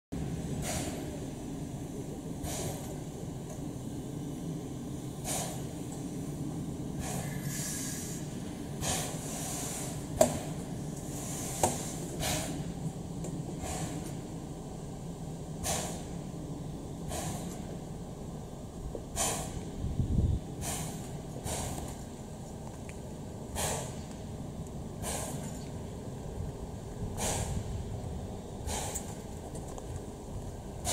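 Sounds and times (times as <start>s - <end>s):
steady low rumble: 0.1s - 30.9s
hissing steam puffs: 0.4s - 1.4s, 2.3s - 14.4s, 15.5s - 17.8s, 19.0s - 22.3s, 23.3s - 30.0s, 30.6s - 30.9s.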